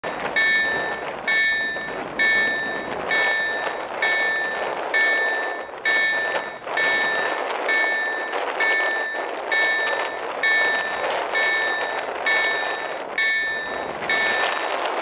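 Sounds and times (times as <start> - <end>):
level crossing warning bells: 0.0 - 15.0
steady rushing noise: 0.0 - 15.0.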